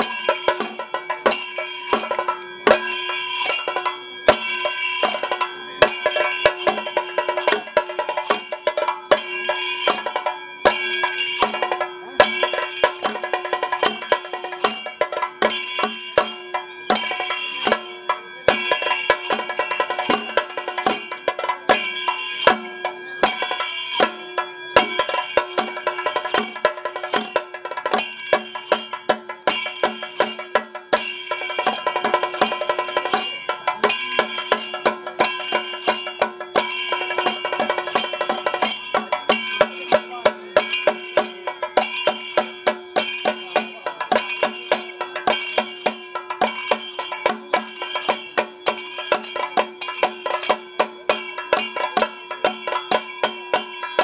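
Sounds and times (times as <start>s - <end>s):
drums playing fast rhythm: 0.0s - 54.0s
hand cymbals ringing: 0.0s - 54.0s.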